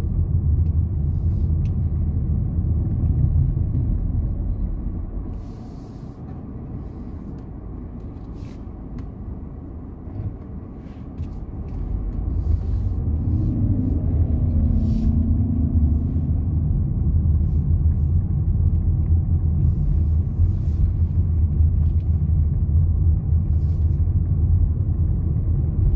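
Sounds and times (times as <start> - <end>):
car road and engine rumble: 0.0 - 25.9.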